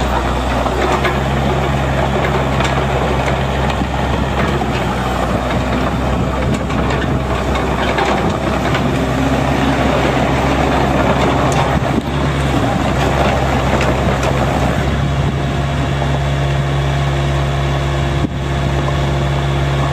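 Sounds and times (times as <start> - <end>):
mini excavator diesel engine running: 0.0 - 19.9.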